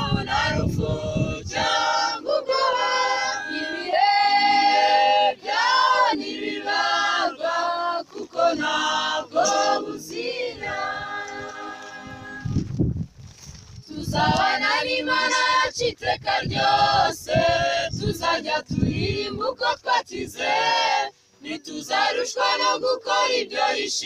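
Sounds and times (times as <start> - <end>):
mixed choir singing a hymn: 0.0 - 12.7, 13.9 - 24.0.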